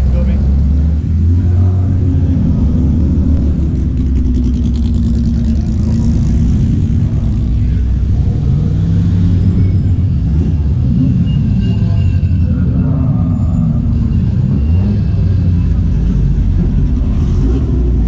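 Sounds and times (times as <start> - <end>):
racing car engines at low revs: 0.0 - 18.0.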